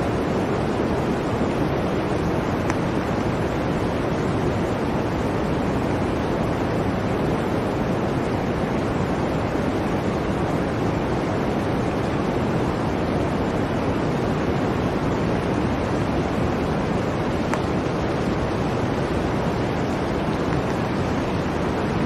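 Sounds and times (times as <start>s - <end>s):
blizzard wind blowing: 0.0s - 22.0s.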